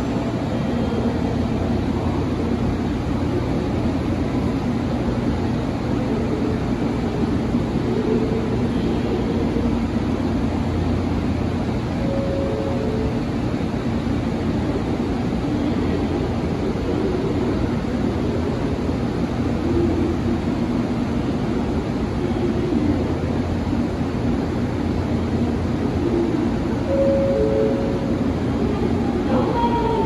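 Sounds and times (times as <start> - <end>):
train rumbling and roaring: 0.0 - 30.0.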